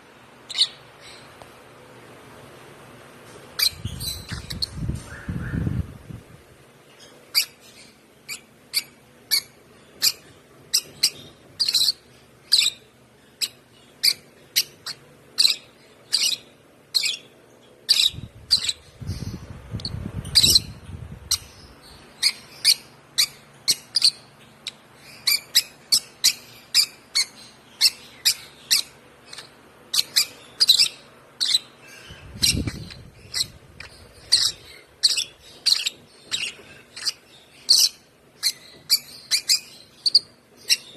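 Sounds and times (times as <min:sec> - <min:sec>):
bird chick chirping: 0:03.5 - 0:06.3, 0:07.0 - 0:40.9.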